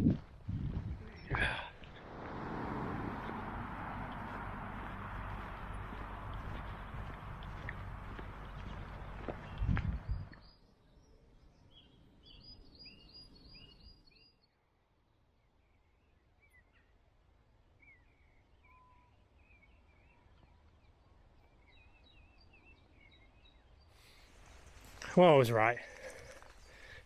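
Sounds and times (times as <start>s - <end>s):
small birds chirping: 1.0s - 14.6s, 15.4s - 27.0s.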